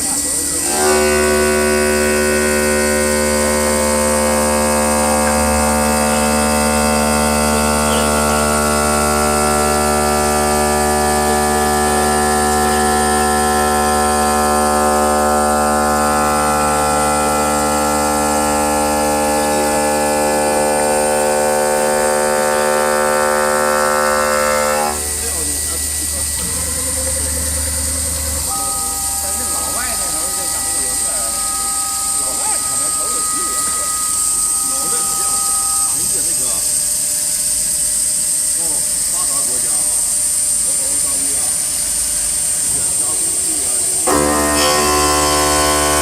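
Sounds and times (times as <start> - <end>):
stone machine motor whine: 0.0 - 46.0.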